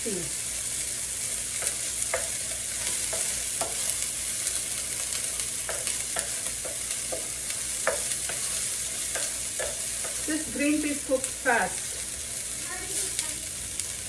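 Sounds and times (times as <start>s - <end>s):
vegetables sizzling in skillet: 0.0s - 14.0s.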